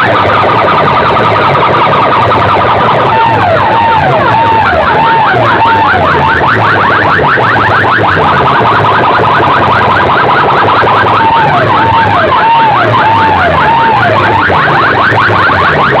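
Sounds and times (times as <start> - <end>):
warbling electronic siren: 0.0 - 16.0.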